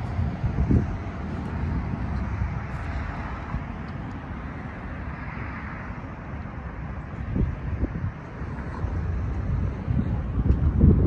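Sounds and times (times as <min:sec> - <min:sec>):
road traffic hiss: 0:00.0 - 0:11.0
wind buffeting microphone: 0:00.0 - 0:11.0.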